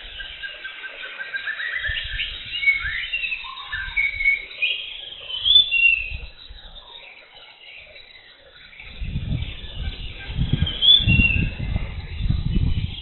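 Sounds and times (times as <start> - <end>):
birds whistling calls: 0.0 - 13.0.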